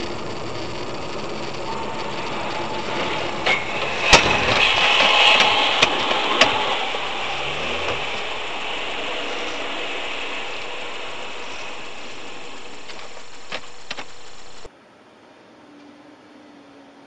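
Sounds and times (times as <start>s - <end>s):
car road noise: 0.0s - 14.7s
dense mechanical rattle: 0.0s - 14.7s.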